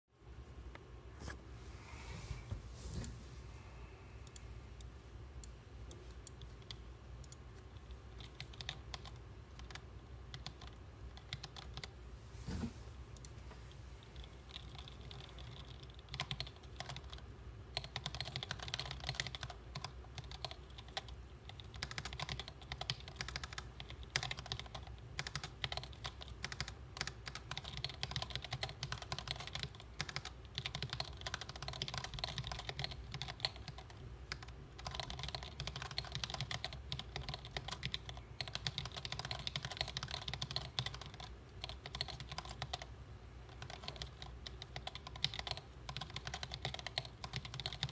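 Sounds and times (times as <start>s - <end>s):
faint low hum: 0.1s - 47.9s
mechanical keyboard typing: 6.3s - 12.0s, 14.2s - 42.9s, 43.5s - 47.9s.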